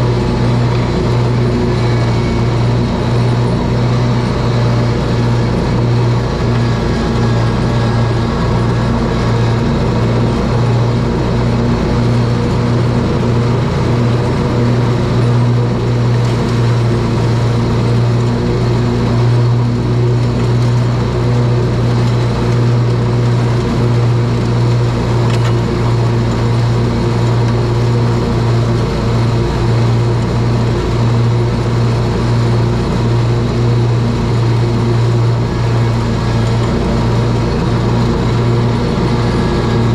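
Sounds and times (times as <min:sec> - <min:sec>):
riding mower engine drone: 0:00.0 - 0:39.9.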